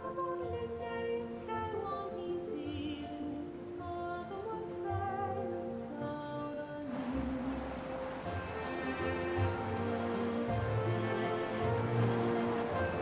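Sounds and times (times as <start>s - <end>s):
slow gentle ambient music: 0.0s - 13.0s.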